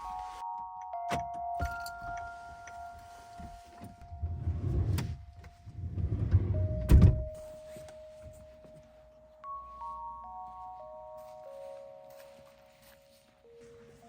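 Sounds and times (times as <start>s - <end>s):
soft glockenspiel-like music: 0.0s - 14.0s.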